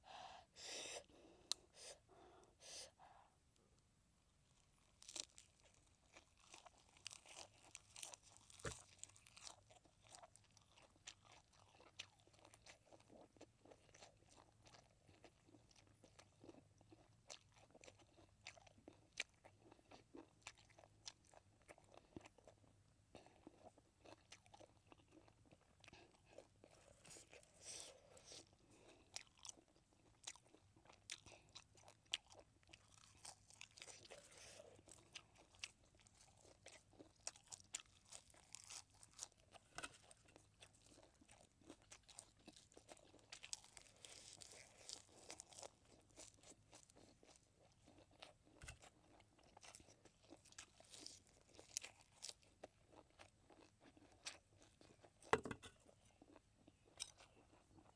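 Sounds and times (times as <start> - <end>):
person chewing crunchy vegetable: 4.5 - 57.9.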